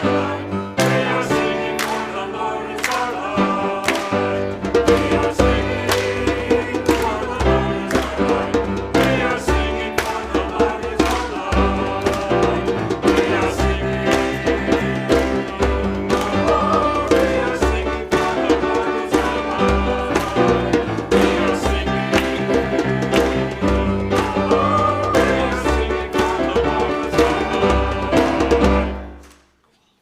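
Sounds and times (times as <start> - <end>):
church music with singing: 0.0 - 30.0.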